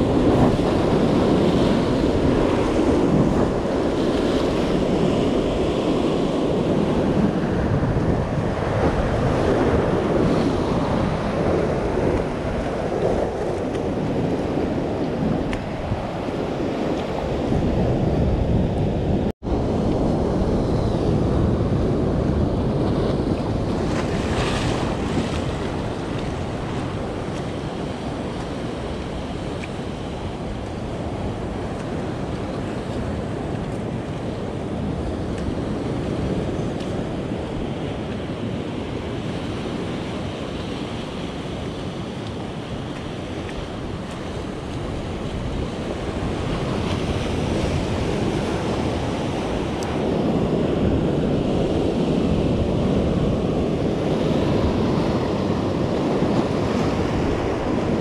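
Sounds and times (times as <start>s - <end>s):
surf washing over rocks: 0.0s - 58.0s
wind buffeting microphone: 0.0s - 58.0s.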